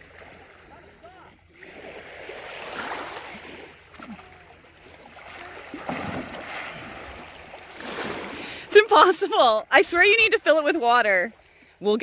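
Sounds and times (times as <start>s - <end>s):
sea water lapping and splashing: 0.0s - 12.0s.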